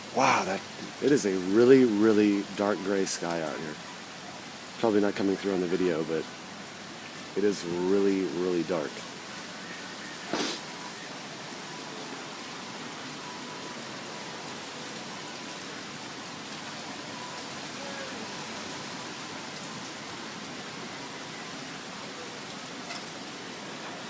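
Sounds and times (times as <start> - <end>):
heavy rain on surfaces: 0.0 - 24.0.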